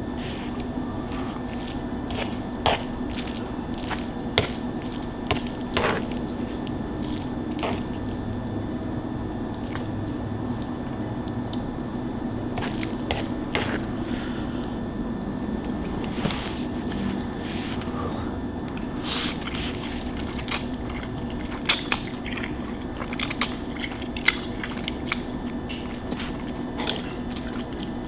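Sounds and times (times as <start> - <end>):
steady low hum: 0.0 - 28.0
wet chewing and mouth smacks: 0.0 - 28.0.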